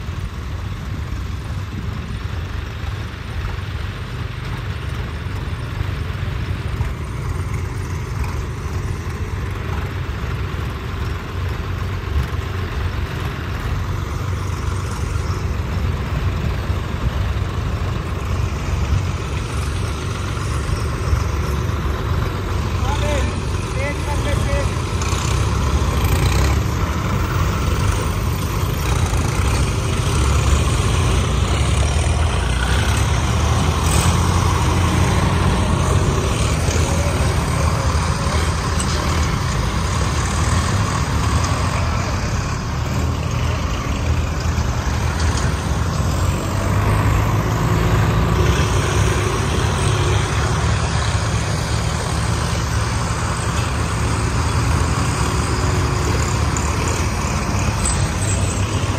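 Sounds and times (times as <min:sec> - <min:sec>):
tractor diesel engines running: 0:00.0 - 0:58.9.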